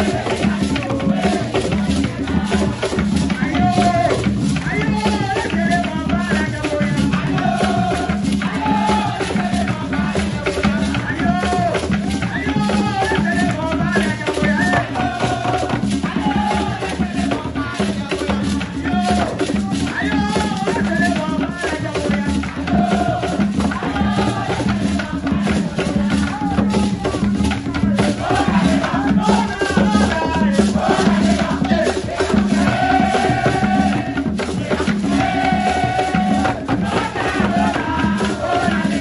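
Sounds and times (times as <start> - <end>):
group singing a chant: 0.0 - 39.0
hand drums playing: 0.0 - 39.0
shaker rattling: 0.0 - 39.0.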